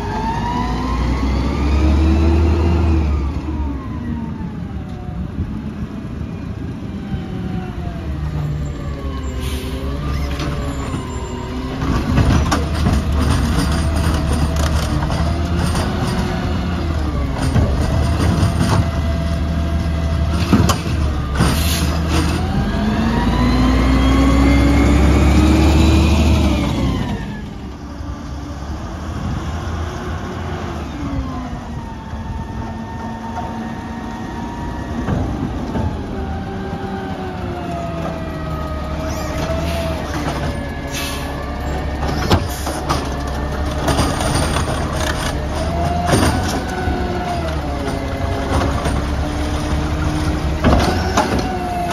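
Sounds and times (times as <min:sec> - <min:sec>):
diesel truck engine revving: 0:00.0 - 0:04.8, 0:07.4 - 0:51.9.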